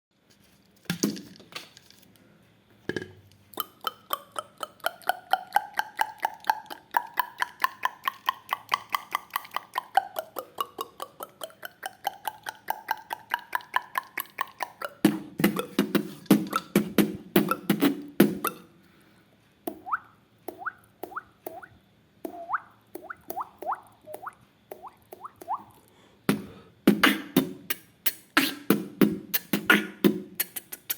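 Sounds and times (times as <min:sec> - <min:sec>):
beatboxed water-drop clicks: 0:02.9 - 0:18.7, 0:19.7 - 0:30.9.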